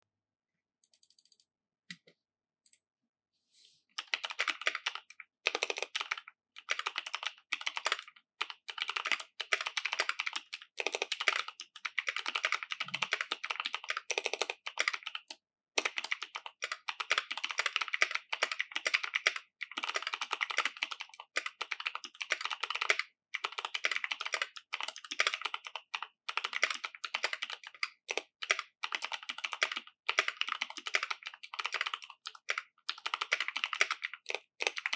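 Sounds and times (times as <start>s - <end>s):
clicky keyboard typing: 0.8s - 2.8s, 4.0s - 34.9s.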